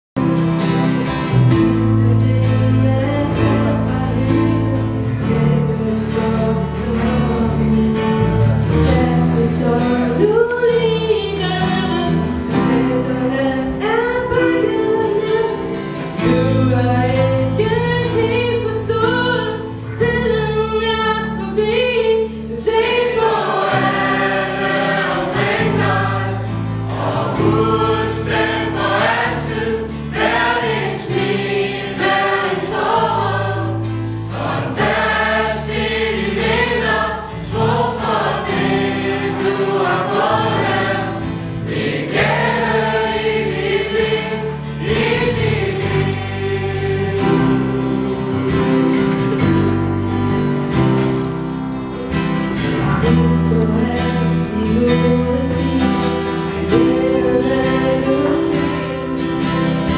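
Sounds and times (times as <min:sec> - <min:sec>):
strummed acoustic guitar: 0:00.2 - 0:59.9
group of people singing: 0:00.3 - 0:49.7, 0:52.8 - 0:59.9.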